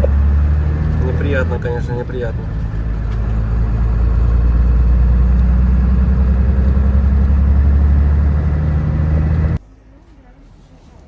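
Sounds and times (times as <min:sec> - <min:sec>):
truck diesel engine droning: 0:00.0 - 0:09.9.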